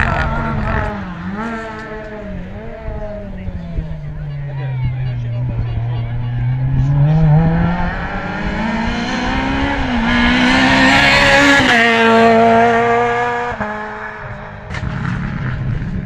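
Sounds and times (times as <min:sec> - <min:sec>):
rally car accelerating past: 0:00.0 - 0:03.8, 0:05.4 - 0:16.0.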